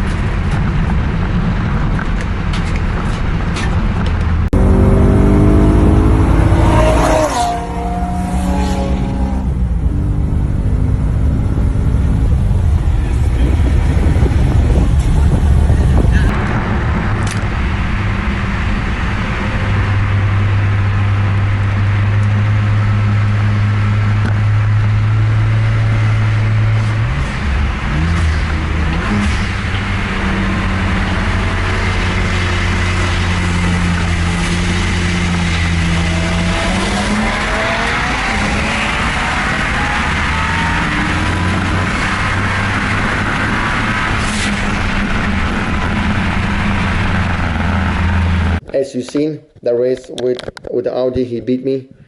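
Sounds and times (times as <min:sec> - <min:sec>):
car engine accelerating: 0:00.0 - 0:48.6
wind and road noise: 0:00.0 - 0:52.0.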